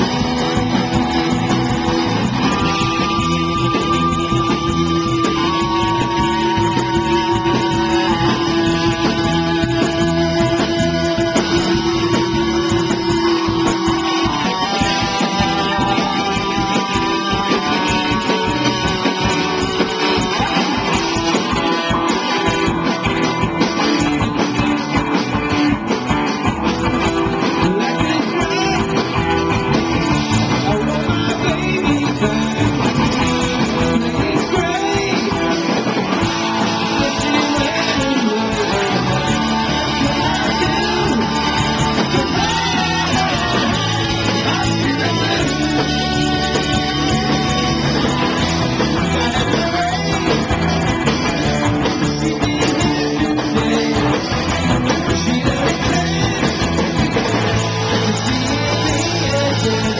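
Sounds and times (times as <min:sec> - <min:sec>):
man singing into microphone: 0:00.0 - 0:22.2, 0:27.4 - 0:29.5, 0:30.2 - 0:59.9
bass guitar: 0:00.0 - 0:59.9
drums: 0:00.0 - 0:59.9
electric guitar: 0:00.0 - 0:59.9.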